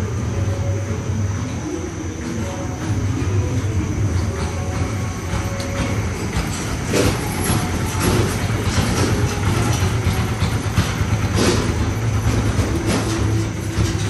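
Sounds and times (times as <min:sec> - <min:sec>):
washing machine hum and rumble: 0:00.0 - 0:14.0.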